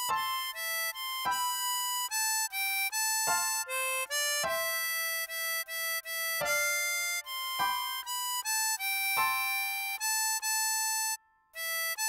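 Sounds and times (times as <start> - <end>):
harmonica slow melody: 0.0 - 12.0.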